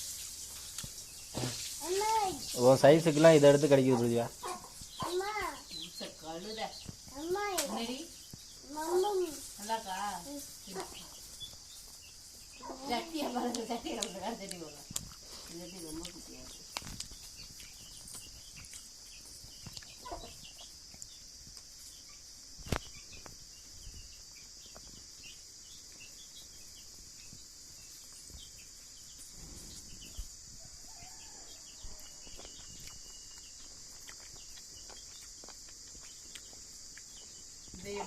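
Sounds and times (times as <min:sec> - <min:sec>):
faint chirps: 0:00.0 - 0:38.0
high insect drone: 0:00.0 - 0:38.0.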